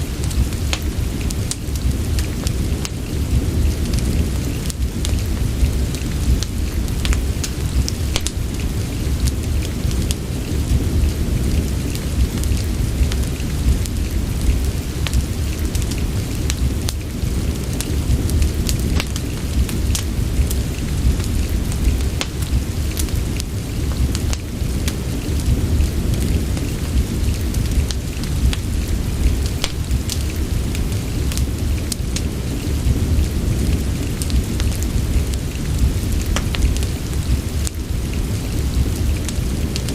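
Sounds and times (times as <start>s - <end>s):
soft rain: 0.0s - 39.9s
wood fire crackling: 0.0s - 39.9s.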